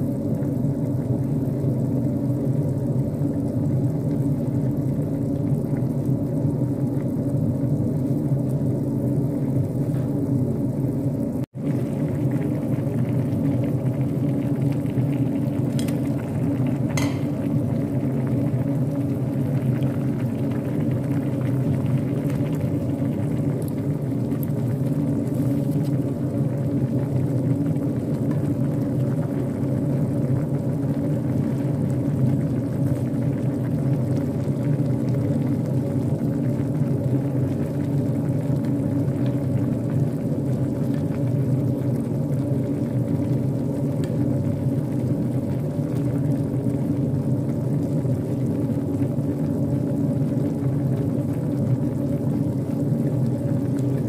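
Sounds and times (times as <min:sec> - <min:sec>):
pot boiling hard: 0:00.0 - 0:54.0.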